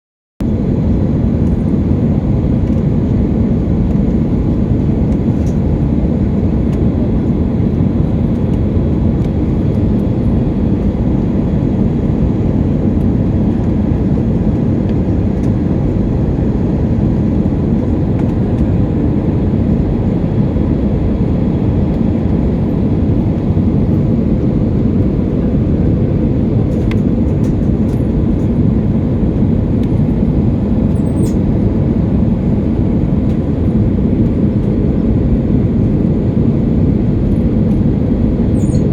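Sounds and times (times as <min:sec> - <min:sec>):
airliner cabin engine roar: 0:00.4 - 0:38.9.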